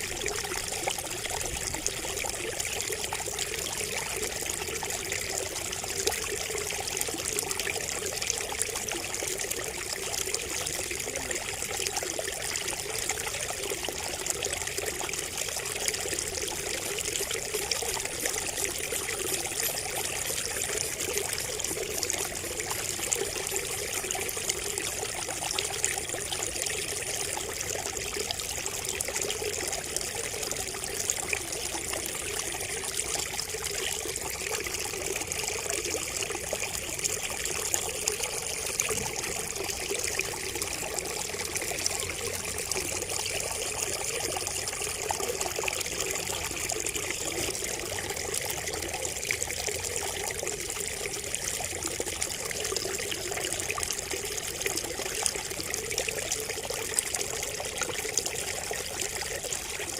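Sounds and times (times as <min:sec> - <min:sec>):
water trickling from bamboo spout: 0:00.0 - 0:59.9.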